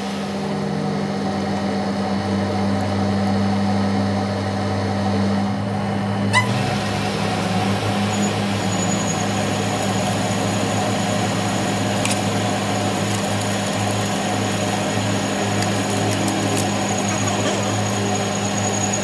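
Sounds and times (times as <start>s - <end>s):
machine humming with high whine: 0.0s - 19.0s.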